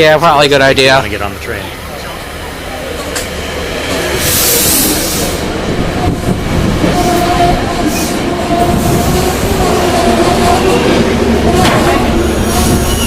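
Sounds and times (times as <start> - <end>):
train rolling and slowing: 0.0 - 13.0.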